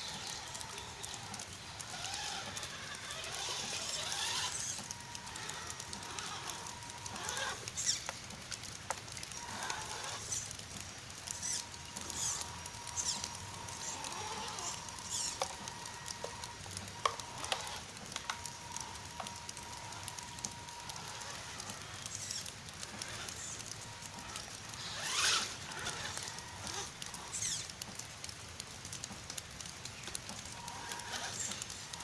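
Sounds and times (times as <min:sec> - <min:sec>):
electric toy truck motor whine: 0:00.0 - 0:08.1, 0:08.9 - 0:10.6, 0:11.2 - 0:27.8, 0:30.4 - 0:32.0
sharp clicks and ticks: 0:00.0 - 0:32.0
water and grit under tyres: 0:00.0 - 0:32.0.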